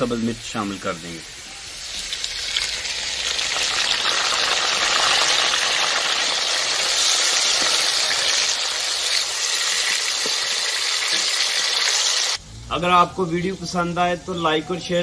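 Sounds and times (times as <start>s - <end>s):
vegetables sizzling in hot oil: 0.0s - 12.4s.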